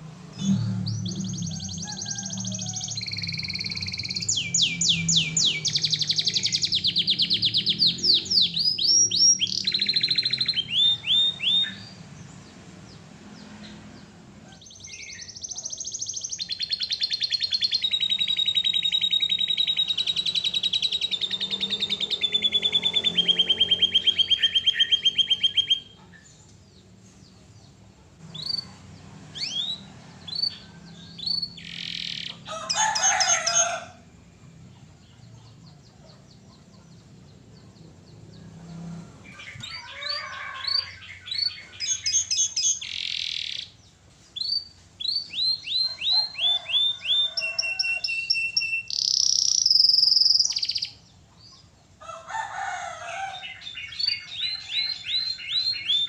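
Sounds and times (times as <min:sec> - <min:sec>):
canary singing trills: 0:00.0 - 0:51.8, 0:53.3 - 0:56.0.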